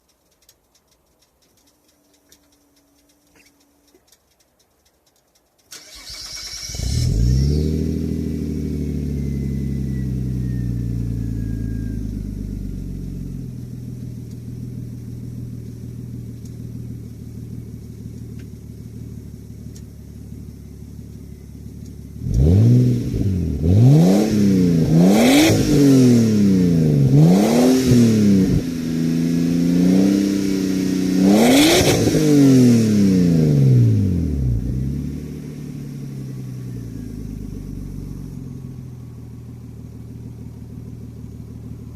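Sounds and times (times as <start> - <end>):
car engine idling: 0.0 - 41.9
car engine revving: 5.7 - 41.9.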